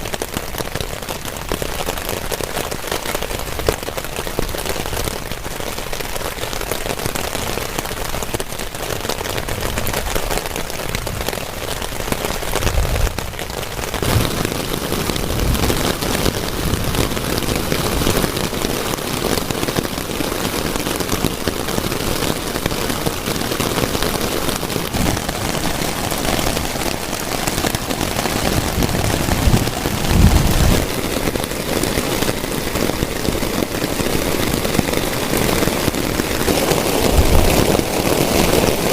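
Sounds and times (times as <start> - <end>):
heavy rain drumming on a tent: 0.0 - 38.9.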